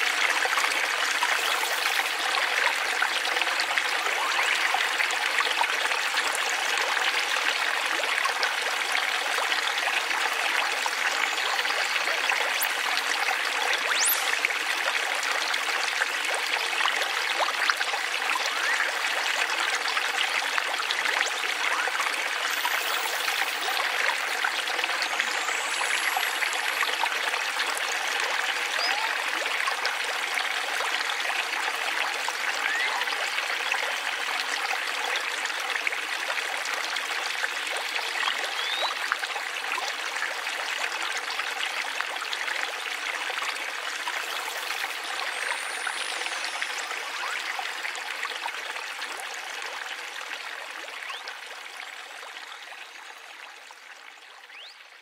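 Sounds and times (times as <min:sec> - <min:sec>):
small waterfall trickling over stones: 0:00.0 - 0:55.0.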